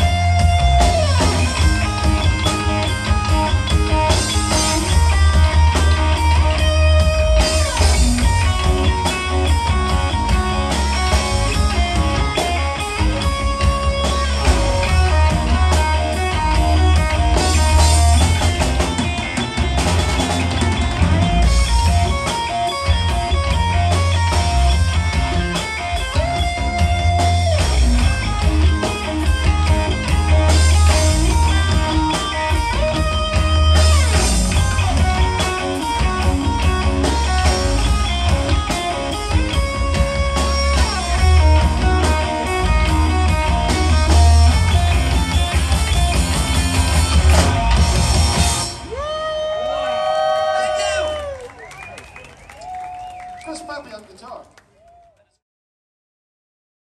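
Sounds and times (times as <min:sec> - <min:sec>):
heavy bass: 0:00.0 - 0:49.1
electric guitar lead lines: 0:00.0 - 0:49.6
drums: 0:00.0 - 0:55.0.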